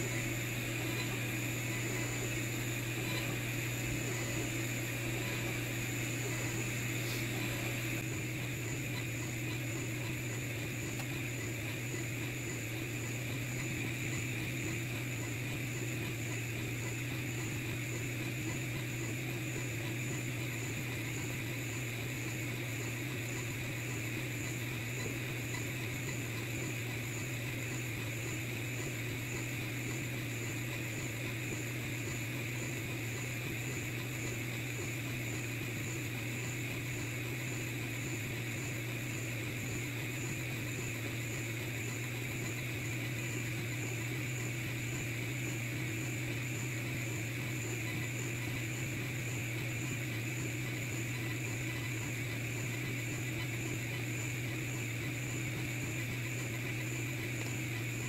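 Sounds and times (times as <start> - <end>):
laser engraver humming: 0.0 - 58.0
thin high whine: 0.0 - 58.0.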